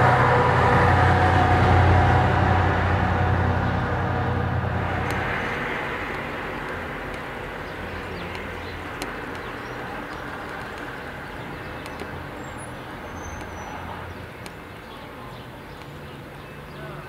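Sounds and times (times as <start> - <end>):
outdoor background noise: 0.0 - 17.0
vehicle engine hum: 0.0 - 17.0.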